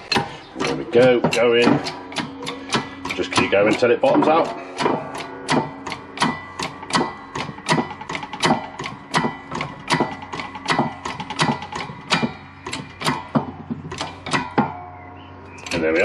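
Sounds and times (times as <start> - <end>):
hydraulic press pump clicks: 0.0 - 14.8, 15.5 - 16.0.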